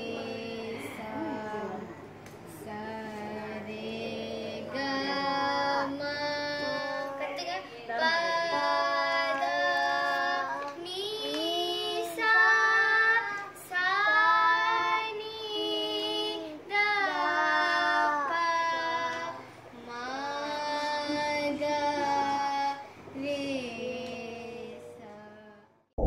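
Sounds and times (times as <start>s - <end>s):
children singing: 0.0s - 25.5s.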